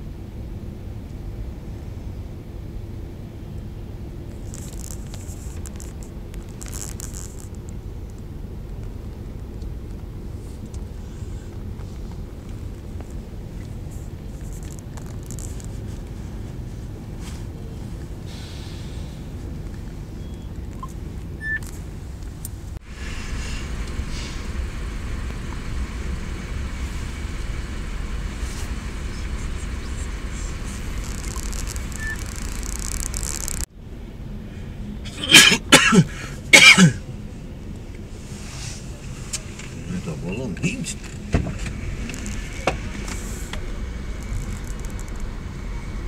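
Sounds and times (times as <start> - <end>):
low rumble of traffic: 0.0 - 46.0.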